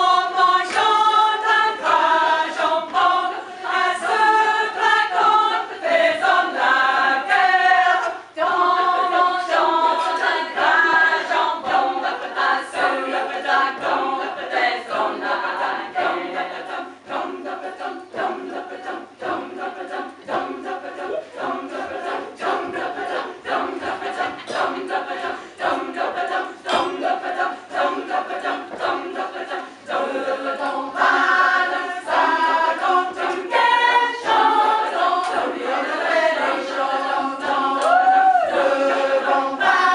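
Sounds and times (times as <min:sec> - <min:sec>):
women's choir singing unaccompanied: 0:00.0 - 0:39.9.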